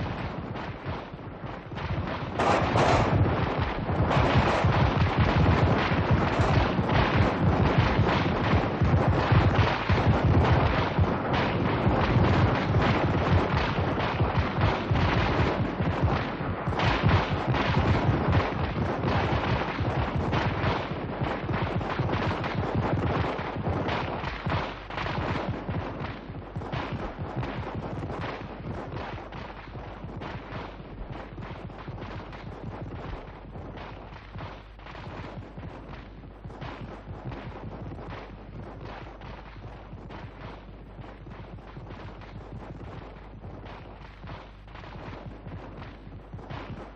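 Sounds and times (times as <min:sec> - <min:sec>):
rapid gunfire: 0:00.0 - 0:46.9.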